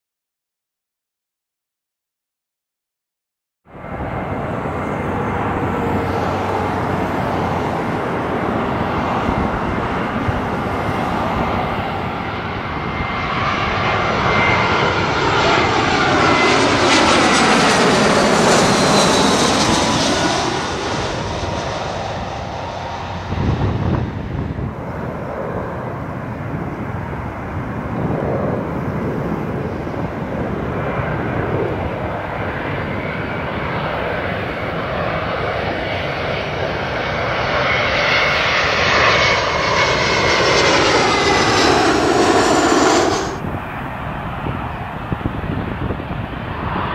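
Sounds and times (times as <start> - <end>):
jet airliner passing overhead: 3.7 - 46.9.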